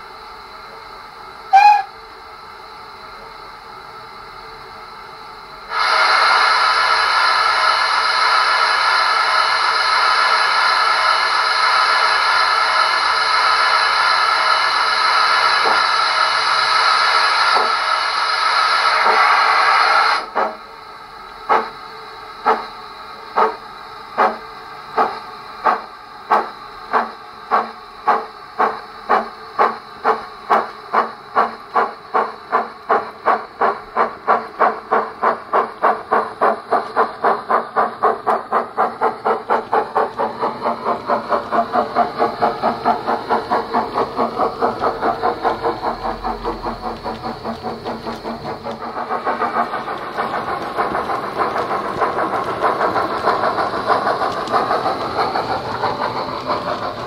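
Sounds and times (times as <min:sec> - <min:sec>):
steam locomotive exhaust chuffs: 0:00.0 - 0:57.0
steam hiss: 0:01.5 - 0:02.0, 0:05.6 - 0:20.7, 0:21.4 - 0:57.0.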